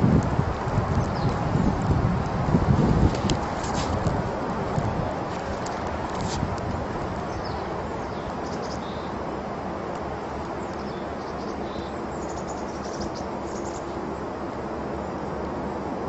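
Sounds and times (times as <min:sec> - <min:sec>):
steady outdoor noise: 0:00.0 - 0:16.0.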